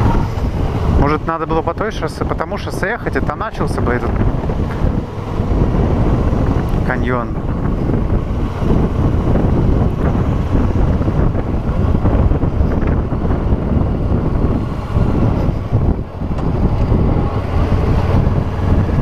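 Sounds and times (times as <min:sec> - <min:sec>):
motorcycle engine rumble: 0:00.0 - 0:19.0
wind buffeting microphone: 0:00.0 - 0:19.0.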